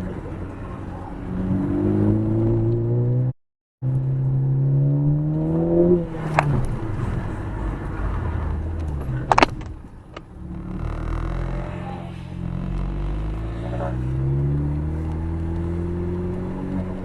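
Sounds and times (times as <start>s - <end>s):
car engine accelerating: 0.0s - 17.0s
road noise: 0.0s - 17.0s.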